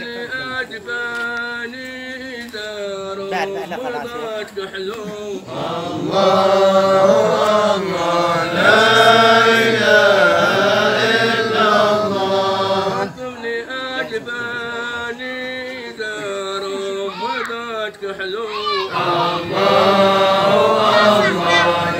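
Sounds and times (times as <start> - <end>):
men chanting together: 0.0 - 17.2, 18.2 - 21.9.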